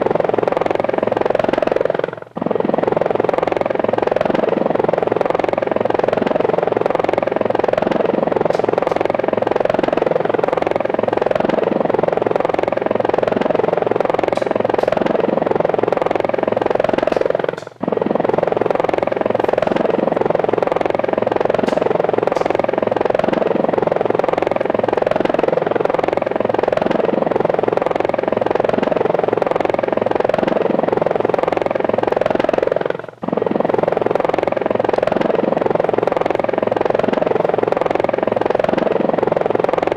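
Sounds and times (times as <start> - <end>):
helicopter rotors whirring: 0.0 - 39.9.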